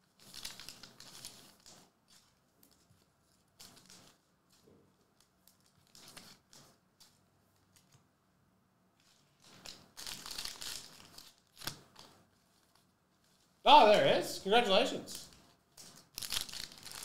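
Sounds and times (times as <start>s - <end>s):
wrapper and cards rustling: 0.0s - 8.0s, 9.0s - 17.0s.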